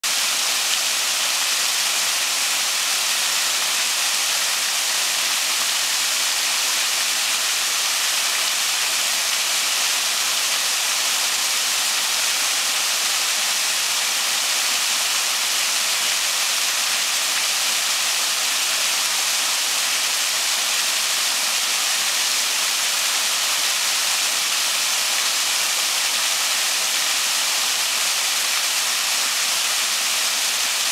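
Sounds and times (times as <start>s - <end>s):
small waterfall splashing on rock: 0.0s - 30.9s.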